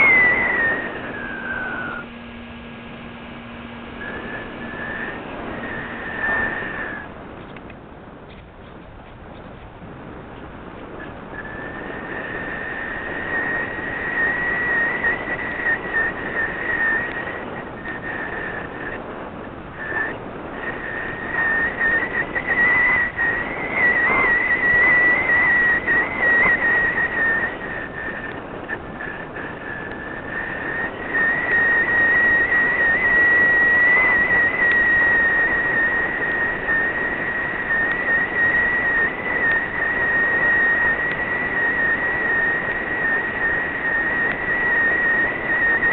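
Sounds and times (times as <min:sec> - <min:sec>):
steady high whistle: 0:00.0 - 0:07.4, 0:10.9 - 0:45.9.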